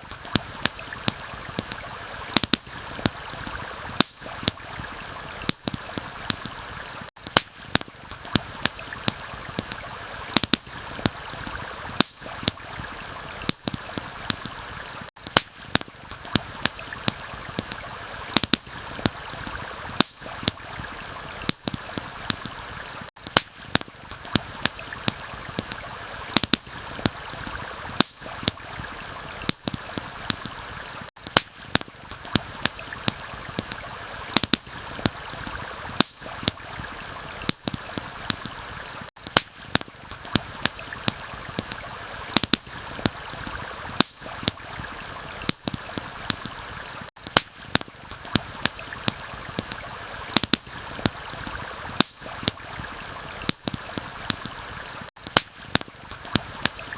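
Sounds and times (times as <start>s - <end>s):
campfire crackling and popping: 0.0s - 56.9s
stream water rushing: 0.0s - 56.9s.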